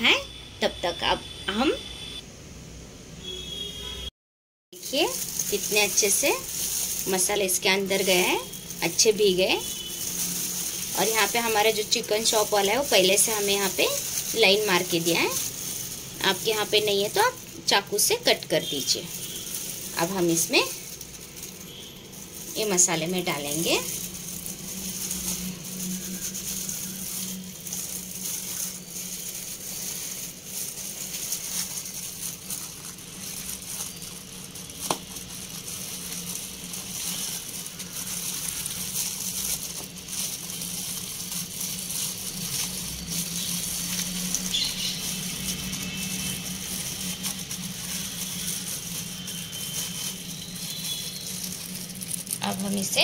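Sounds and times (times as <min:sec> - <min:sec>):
gloved hand rustling in flour: 0:04.8 - 0:53.0.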